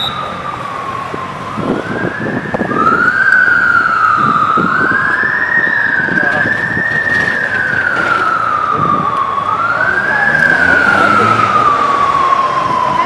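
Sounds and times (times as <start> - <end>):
emergency siren wailing: 0.0 - 13.0
engine and traffic noise: 0.0 - 13.0.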